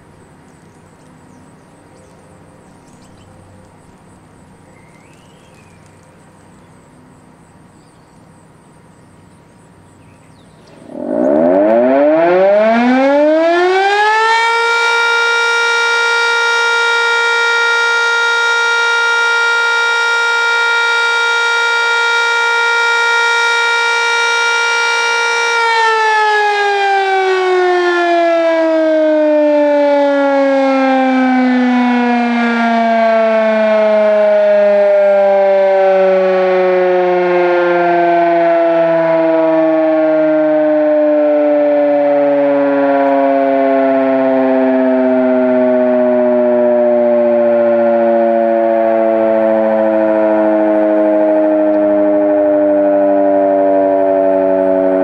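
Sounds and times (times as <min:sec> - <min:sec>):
siren tone: 0:10.7 - 0:55.0.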